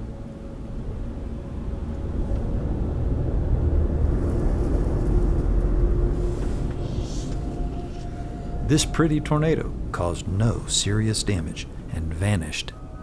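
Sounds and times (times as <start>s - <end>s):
faint steady hum: 0.0s - 13.0s
low rumbling noise: 0.0s - 13.0s.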